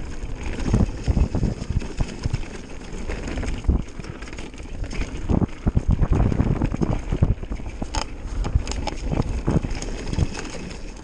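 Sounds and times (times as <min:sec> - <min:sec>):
bike knocks and rattles: 0:00.0 - 0:11.0
bike tyres crunching over stones: 0:00.0 - 0:11.0
wind buffeting microphone: 0:00.0 - 0:11.0.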